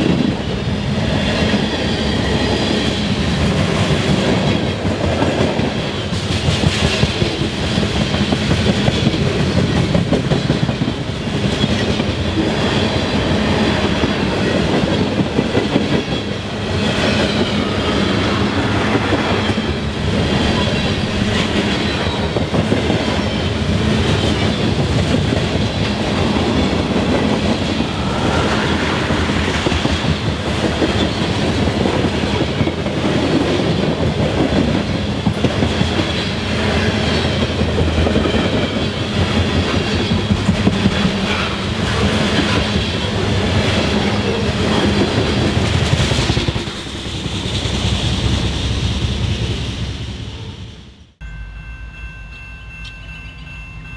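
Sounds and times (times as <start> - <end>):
freight train rumbling past: 0.0 - 53.9
steel wheels clattering on rails: 1.1 - 49.6.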